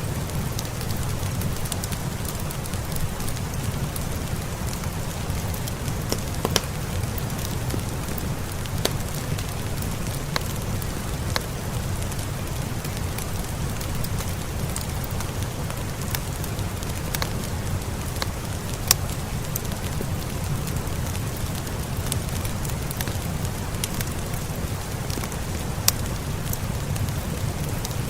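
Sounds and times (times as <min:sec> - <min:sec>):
fireplace fire crackling: 0:00.0 - 0:28.0
rain hiss: 0:00.0 - 0:28.0.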